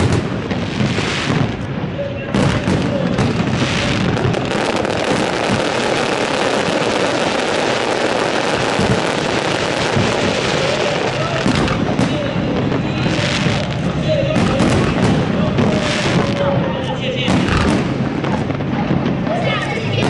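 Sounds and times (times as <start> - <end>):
fireworks crackling: 0.0 - 20.0
sharp firework bangs: 0.0 - 20.0.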